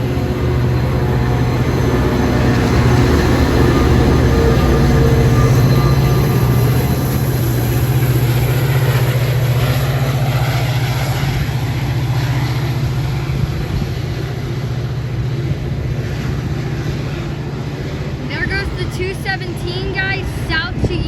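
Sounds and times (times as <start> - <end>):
diesel locomotive droning: 0.0 - 21.0.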